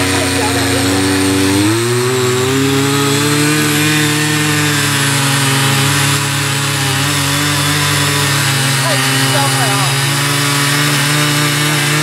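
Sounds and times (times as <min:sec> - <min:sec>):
small petrol engines droning: 0:00.0 - 0:12.0.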